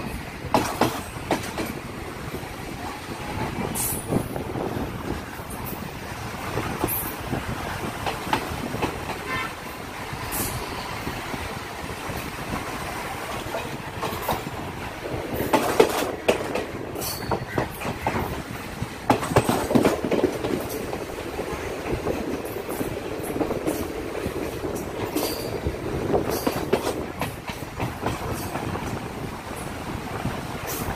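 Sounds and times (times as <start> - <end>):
wheels clacking over rails: 0.0 - 2.5, 3.5 - 30.9
train rumbling: 0.0 - 30.9.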